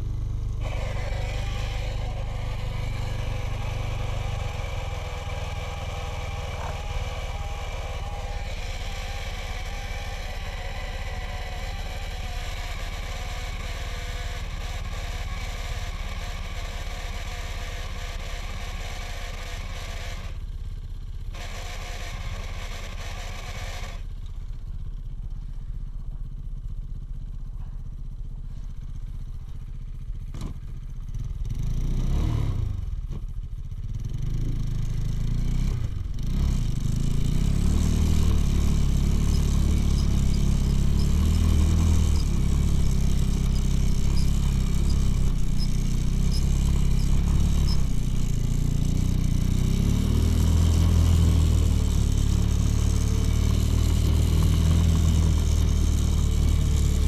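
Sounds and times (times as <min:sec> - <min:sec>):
motorcycle engine revving: 0:00.0 - 0:25.0, 0:28.5 - 0:57.0.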